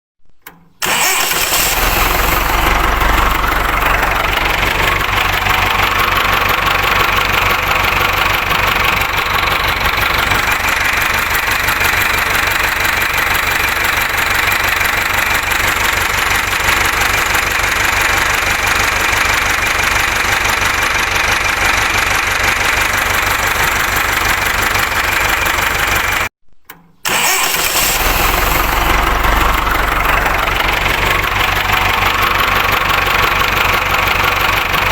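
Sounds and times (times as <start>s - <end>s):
tractor diesel engine running: 0.8s - 26.3s, 27.0s - 34.9s.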